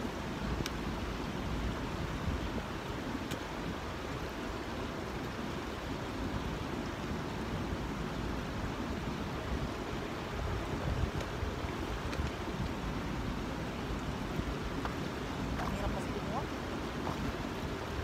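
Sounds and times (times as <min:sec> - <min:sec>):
sea water rushing: 0:00.0 - 0:18.0
wind rumble on microphone: 0:00.0 - 0:18.0.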